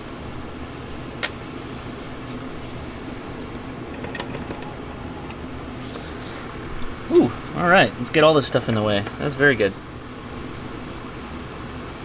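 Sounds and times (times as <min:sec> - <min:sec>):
fan whirring: 0:00.0 - 0:12.0.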